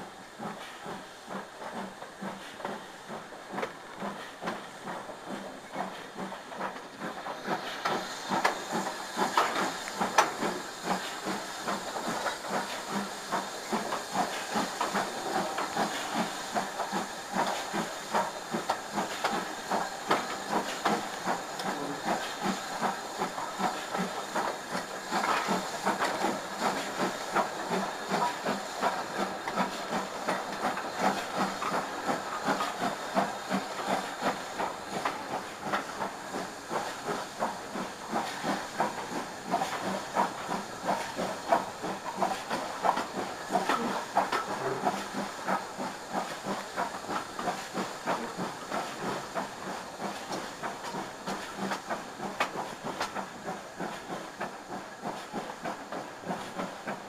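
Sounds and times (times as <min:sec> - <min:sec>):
steam hissing: 0:00.0 - 0:57.0
steam locomotive rhythmic beats: 0:00.0 - 0:57.0.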